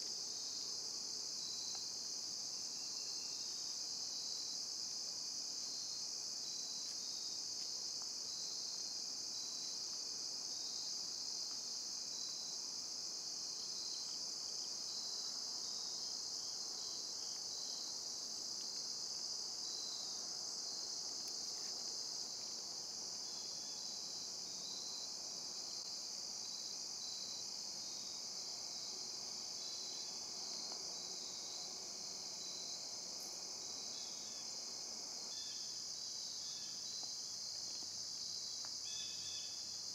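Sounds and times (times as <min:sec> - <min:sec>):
crickets chirring: 0:00.1 - 0:39.9.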